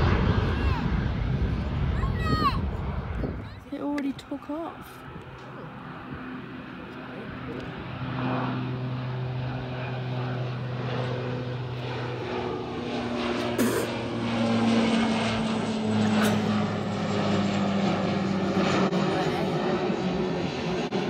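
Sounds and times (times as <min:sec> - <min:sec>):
turboprop plane droning: 0:00.0 - 0:21.0.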